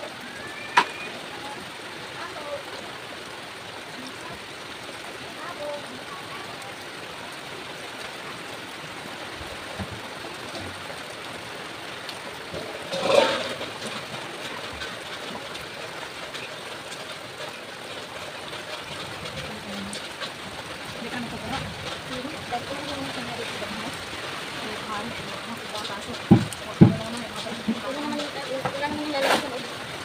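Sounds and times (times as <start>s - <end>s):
water rushing: 0.0s - 30.0s.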